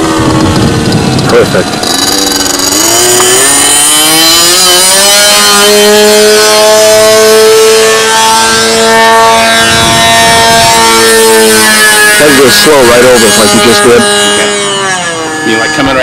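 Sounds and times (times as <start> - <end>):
model plane engine at high revs: 0.0 - 16.0.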